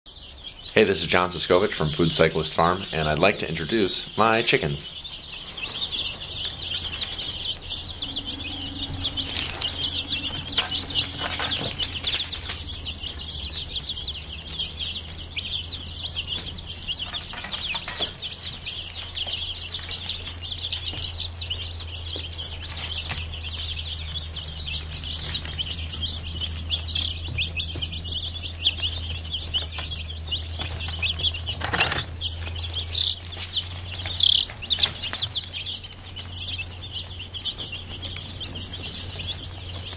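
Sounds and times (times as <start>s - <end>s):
chicks peeping: 0.1s - 39.9s
steady low hum: 0.3s - 39.9s.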